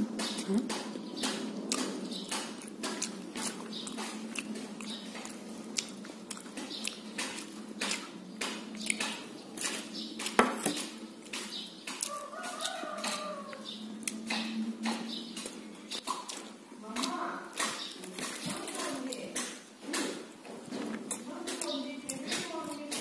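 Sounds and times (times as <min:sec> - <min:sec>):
wet chewing and lip smacks: 0:00.1 - 0:22.9.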